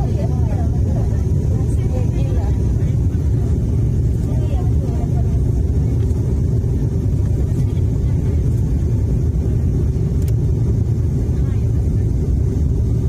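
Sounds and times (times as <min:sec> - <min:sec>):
turboprop airliner rumble: 0:00.0 - 0:13.0.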